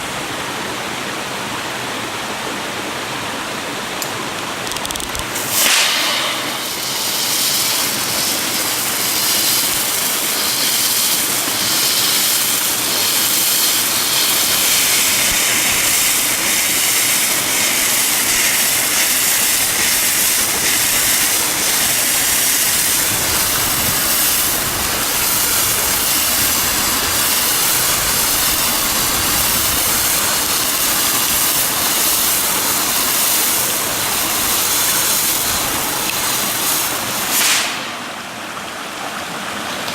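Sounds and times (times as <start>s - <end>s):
flare hissing: 5.2s - 38.2s.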